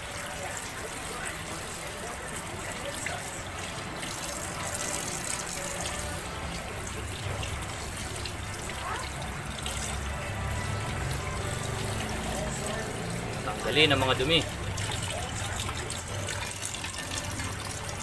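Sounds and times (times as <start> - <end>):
water running over chicken: 0.0 - 18.0.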